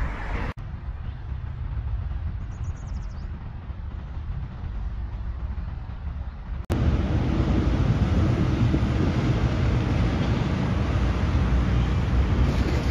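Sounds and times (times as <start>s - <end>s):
highway traffic rumble: 0.0s - 12.9s.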